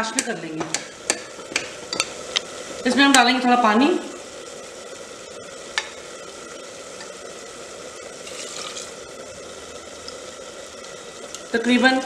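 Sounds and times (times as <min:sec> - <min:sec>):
food sizzling in pressure cooker: 0:00.0 - 0:12.0.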